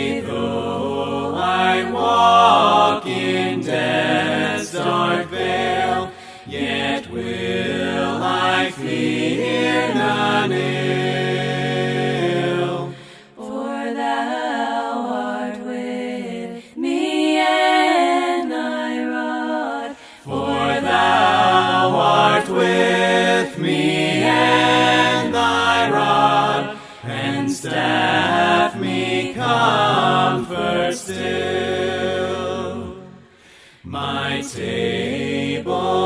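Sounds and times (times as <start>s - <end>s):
unaccompanied voices singing hymn: 0.0s - 36.0s.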